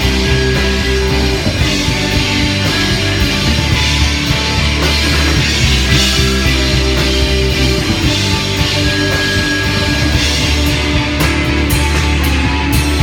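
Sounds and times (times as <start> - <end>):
drum hits: 0.0 - 13.0
rock band playing live: 0.0 - 13.0.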